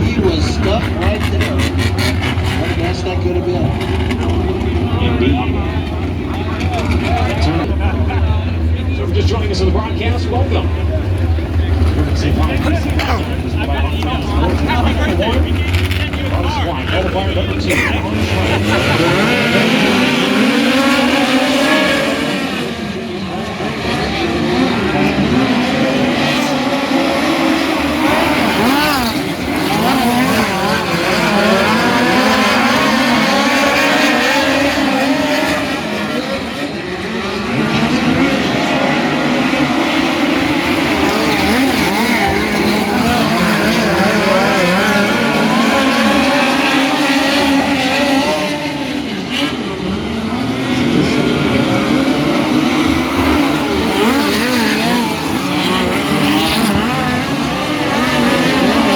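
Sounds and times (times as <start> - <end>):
race car engines: 0.0 - 58.9.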